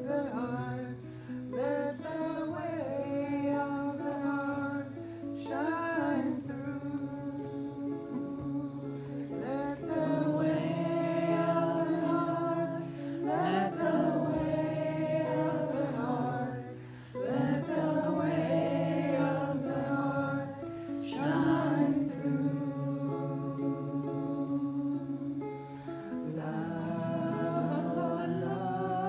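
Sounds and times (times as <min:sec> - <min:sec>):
music with sung vocals: 0:00.0 - 0:29.0.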